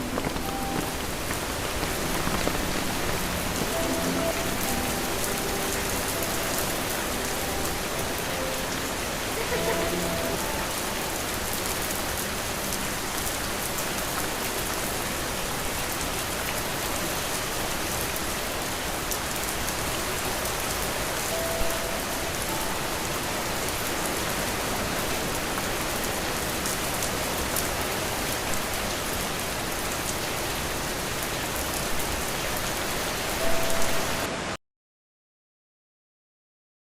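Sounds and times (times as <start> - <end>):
steady rain falling: 0.0 - 34.6.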